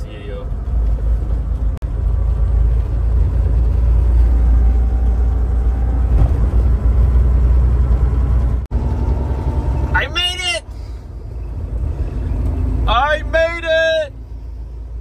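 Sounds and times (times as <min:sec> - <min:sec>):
road noise inside cab: 0:00.0 - 0:15.0
truck engine rumble: 0:00.0 - 0:15.0.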